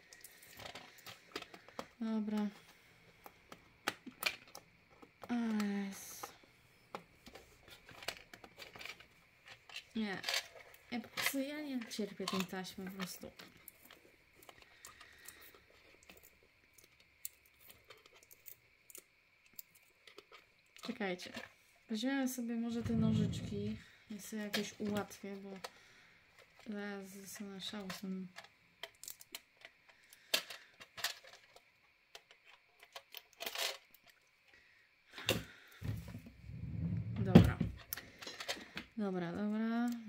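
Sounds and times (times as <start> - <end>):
scratchy tape rustle: 0.0 - 21.6, 22.7 - 34.2.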